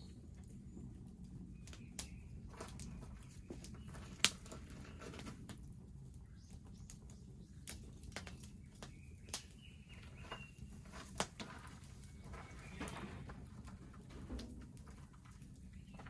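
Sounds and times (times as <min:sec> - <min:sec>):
low rumble of burning: 0:00.0 - 0:16.0
bonfire crackling and popping: 0:00.1 - 0:16.0.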